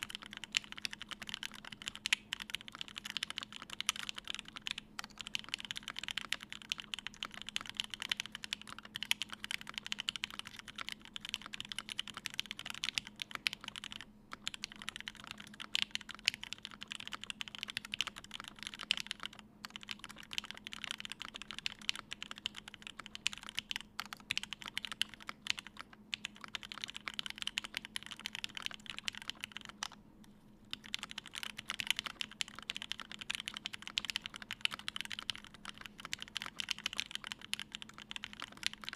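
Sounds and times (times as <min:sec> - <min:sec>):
mechanical keyboard typing: 0:00.0 - 0:30.0, 0:30.7 - 0:38.9.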